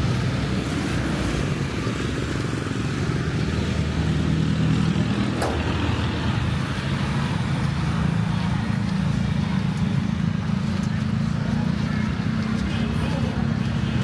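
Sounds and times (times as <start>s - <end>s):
road traffic engines: 0.0s - 14.0s.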